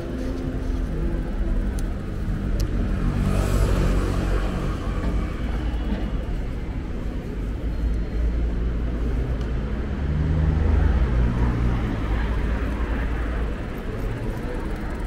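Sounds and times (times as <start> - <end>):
cars passing: 0.0 - 15.0
rumble of vehicle engines: 0.0 - 15.0.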